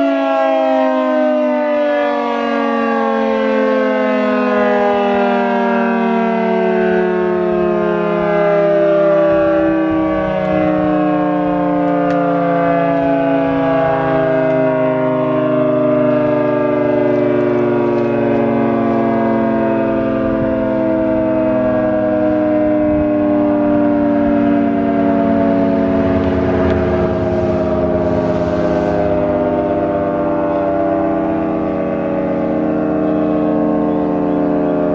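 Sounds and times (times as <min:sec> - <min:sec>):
two-tone mechanical warning siren: 0:00.0 - 0:34.9.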